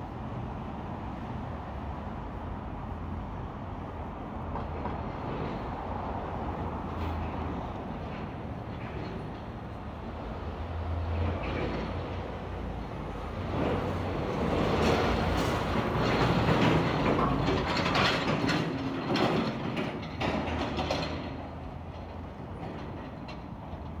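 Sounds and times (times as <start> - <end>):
trailer rattling and clanking: 4.1 - 24.0.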